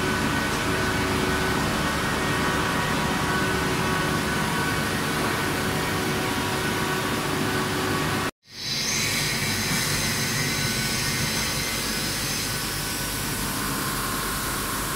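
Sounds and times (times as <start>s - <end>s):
workshop machinery humming: 0.0s - 14.9s.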